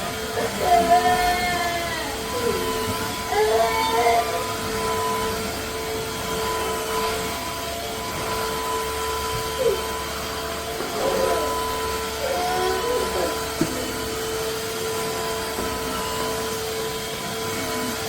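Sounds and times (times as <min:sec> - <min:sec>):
vacuum mop motor whine: 0:00.0 - 0:18.0.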